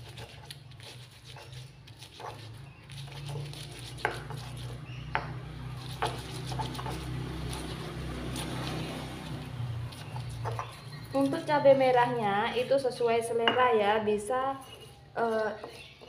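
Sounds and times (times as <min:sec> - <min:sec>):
stone pestle grinding: 0:00.0 - 0:16.0.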